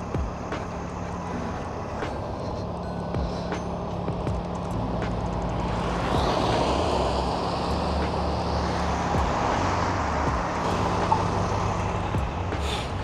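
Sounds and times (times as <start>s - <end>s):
traffic engine hum: 0.0s - 13.0s
vehicle passing on snowy road: 0.0s - 13.0s.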